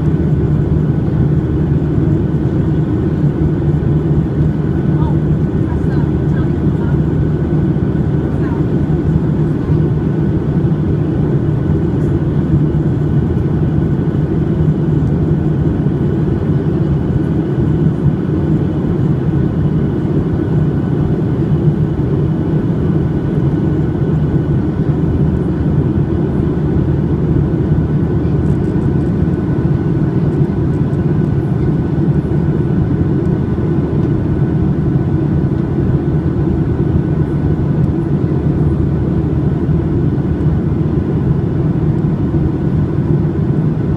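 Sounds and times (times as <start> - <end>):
airplane cabin roar: 0.0 - 43.9.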